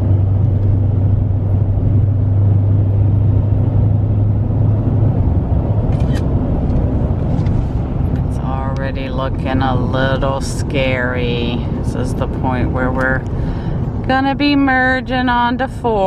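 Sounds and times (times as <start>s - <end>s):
car engine and tyre drone: 0.0s - 16.0s.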